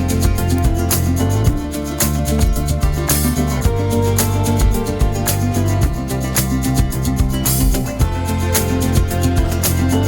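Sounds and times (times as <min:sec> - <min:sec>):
upbeat music with plucked guitar: 0:00.0 - 0:10.0.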